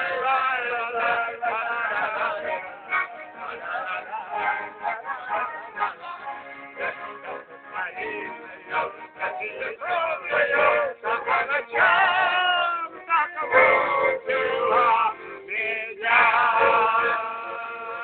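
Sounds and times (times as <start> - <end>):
button accordion chords: 0.0 - 18.0
group singing folk song: 0.0 - 18.0.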